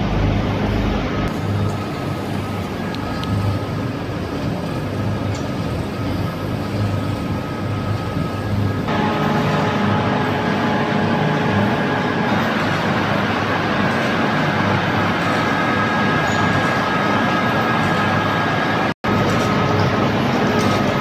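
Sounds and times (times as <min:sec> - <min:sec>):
production line machinery running: 0:00.0 - 0:21.0.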